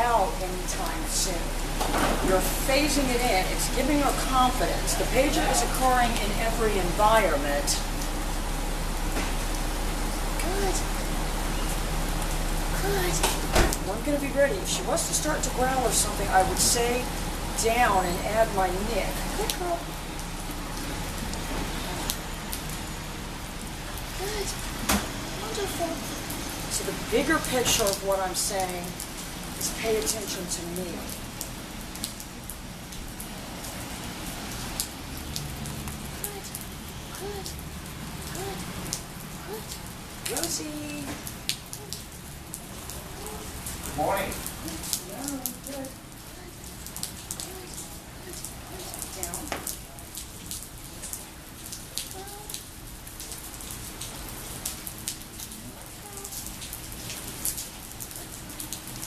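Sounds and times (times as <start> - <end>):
raindrops ticking close by: 0.0 - 59.0
steady rain: 0.0 - 59.0.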